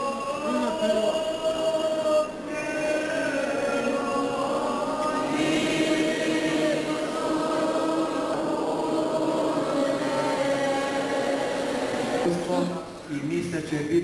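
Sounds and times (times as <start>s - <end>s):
congregation singing a hymn: 0.0s - 12.9s.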